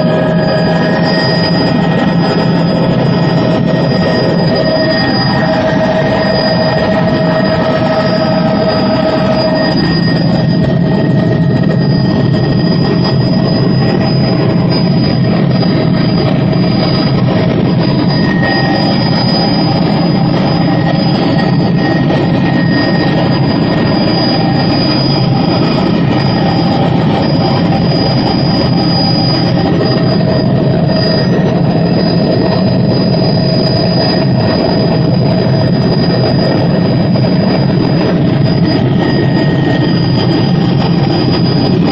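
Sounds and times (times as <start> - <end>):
helicopter turbine and rotor drone: 0.0 - 41.9
high whining tones: 0.0 - 41.9.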